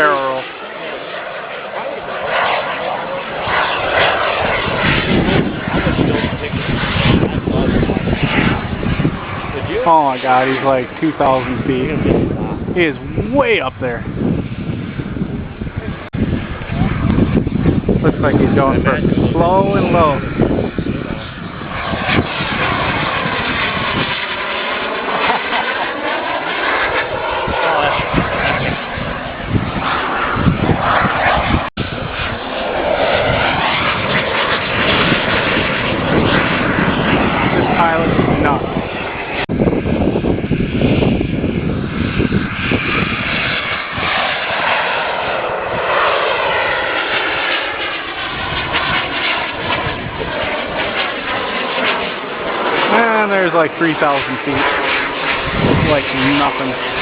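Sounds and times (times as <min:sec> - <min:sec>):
heavy low rumble: 0:00.0 - 0:57.0
model jet turbines passing: 0:00.0 - 0:57.0
wind buffeting microphone: 0:00.0 - 0:57.0.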